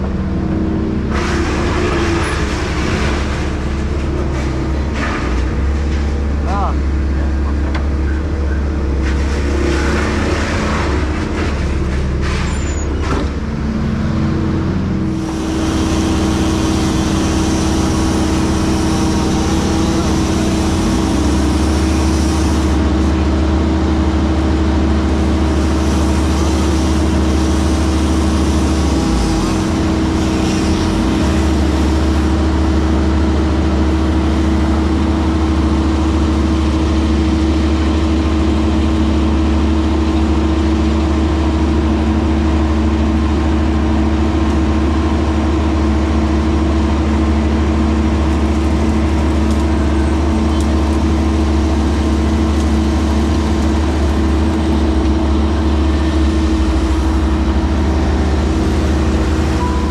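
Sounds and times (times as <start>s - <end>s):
heavy equipment engine running: 0.0s - 59.9s.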